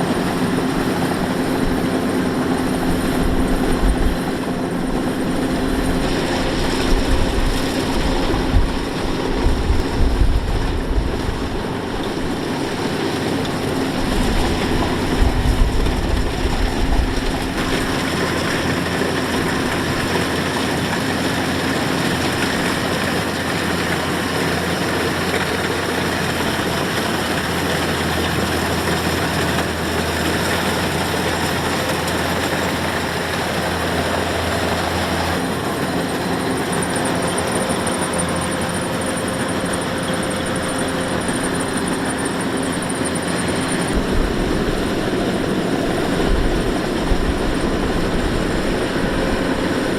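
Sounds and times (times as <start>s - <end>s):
combine harvester running: 0.0s - 49.9s.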